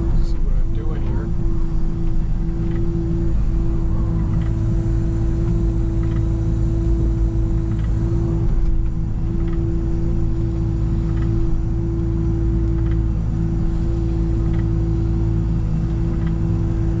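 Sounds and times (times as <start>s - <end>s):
excavator engine rumble: 0.0s - 17.0s
hydraulic whine: 0.0s - 17.0s.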